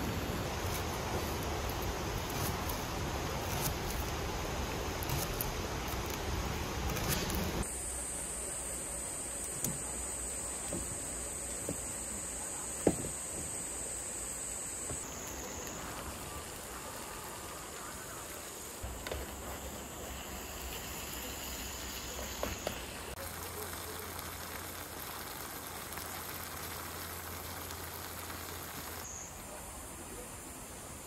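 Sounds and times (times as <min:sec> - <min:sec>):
steady outdoor hiss: 0:00.0 - 0:31.0.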